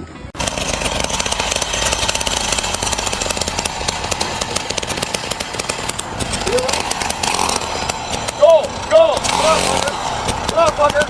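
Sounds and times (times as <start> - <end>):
power tool rattling: 0.4 - 11.0.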